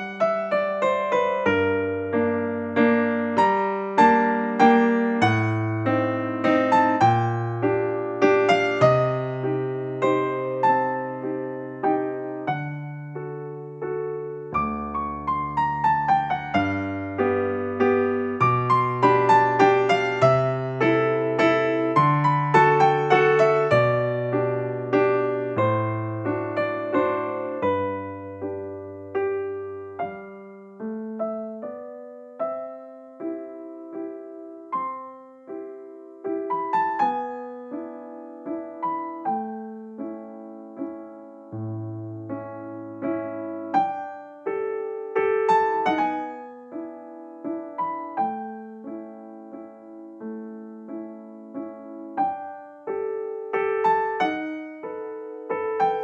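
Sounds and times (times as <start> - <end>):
gentle piano melody: 0.0 - 56.0.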